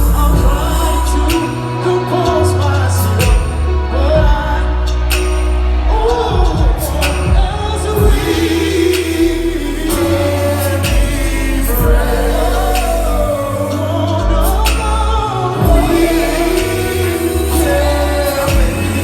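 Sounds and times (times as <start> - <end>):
live rhythm and blues music: 0.0 - 19.0
person singing: 0.0 - 19.0.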